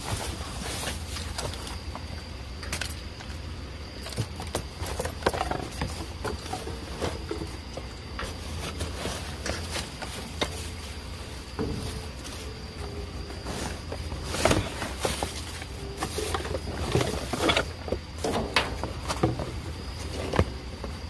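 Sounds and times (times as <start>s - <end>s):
cardboard and plastic bags rustling: 0.0s - 3.1s, 3.9s - 21.0s
steady low hum: 0.0s - 21.0s.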